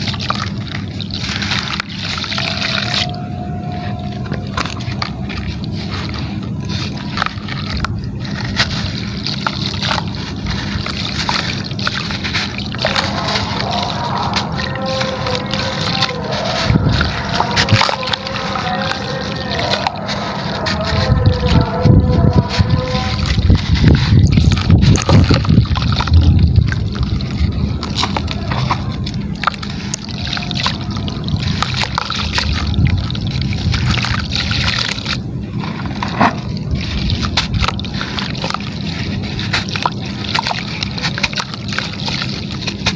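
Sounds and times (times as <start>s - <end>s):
low rumble: 0.0s - 42.7s
gritty material crumbling in water: 0.0s - 42.9s.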